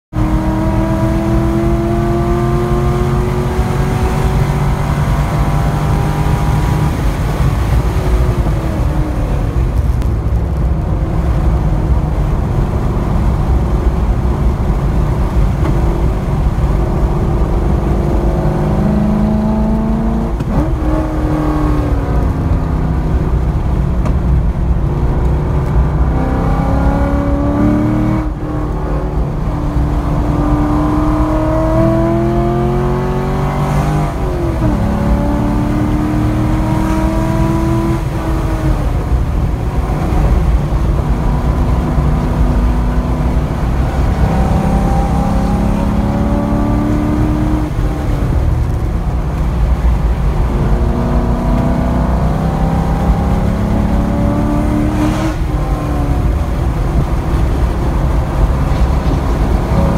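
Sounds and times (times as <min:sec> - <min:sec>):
car engine revving: 0:00.1 - 0:59.9.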